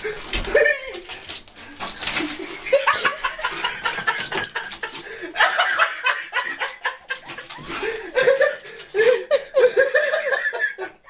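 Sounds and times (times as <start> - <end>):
plastic bags rustling: 0.0 - 10.2
person chuckling and laughing: 0.4 - 1.2, 2.2 - 11.0.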